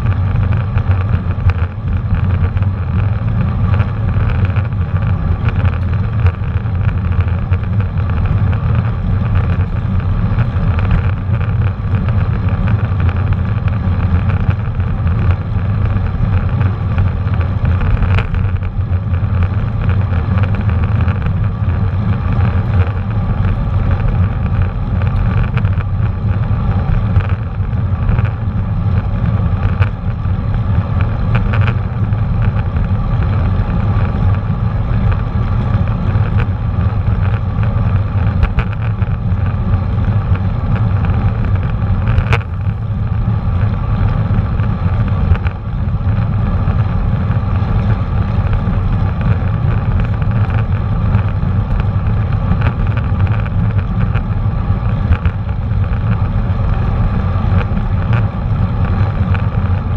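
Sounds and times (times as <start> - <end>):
bicycle clicks: 0.0 - 59.9
tyre and road noise: 0.0 - 59.9.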